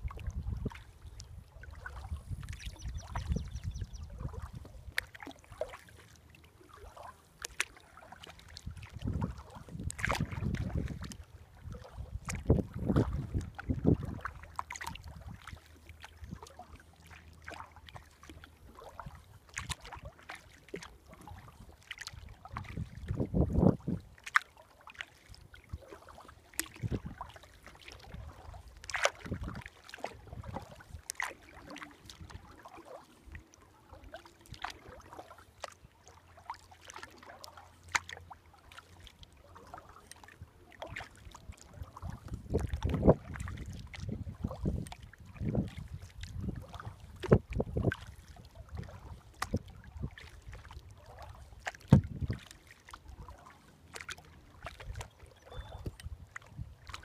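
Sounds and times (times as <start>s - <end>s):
low water rush: 0.0s - 57.0s
paddle dipping and dripping in water: 0.0s - 57.0s
small splashes and clicks: 0.0s - 57.0s.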